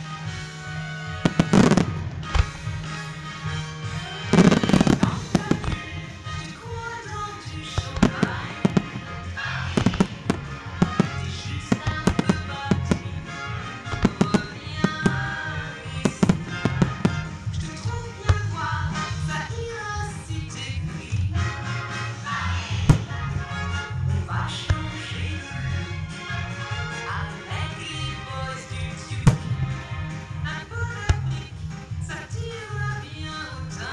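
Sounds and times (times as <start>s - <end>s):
music: 0.0s - 33.9s
fireworks bursting and crackling: 0.6s - 20.2s, 22.7s - 27.0s, 28.8s - 32.3s.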